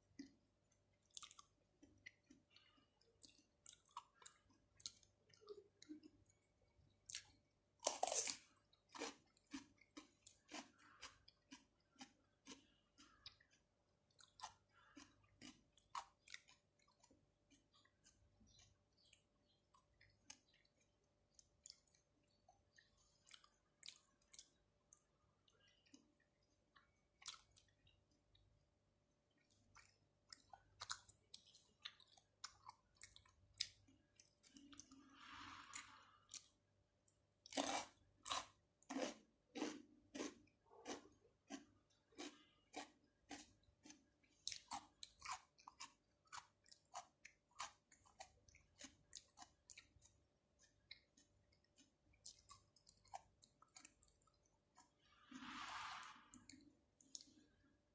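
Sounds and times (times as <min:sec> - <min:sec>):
wet chewing: 0:01.0 - 0:06.4, 0:07.1 - 0:28.4, 0:29.3 - 0:57.6.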